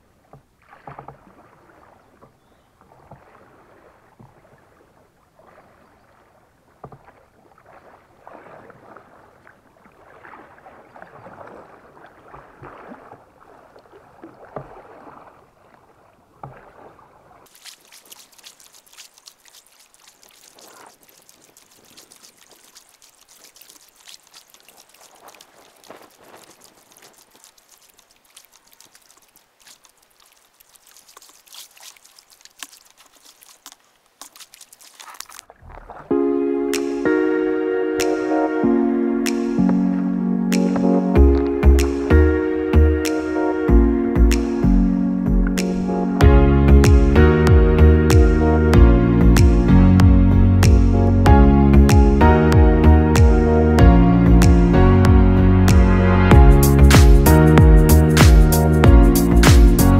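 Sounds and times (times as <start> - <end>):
paddle strokes: 0.0 - 59.9
water splashing: 0.0 - 59.9
water dripping: 5.4 - 37.1, 39.2 - 43.3, 44.2 - 48.4, 49.3 - 53.5, 54.4 - 59.9.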